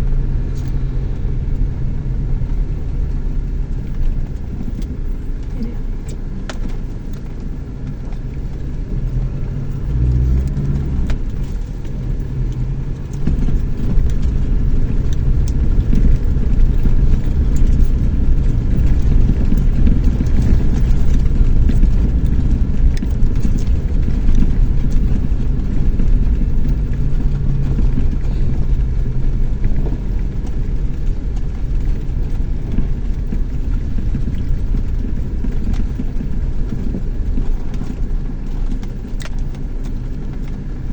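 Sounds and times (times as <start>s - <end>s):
pickup engine and road rumble: 0.0s - 40.9s.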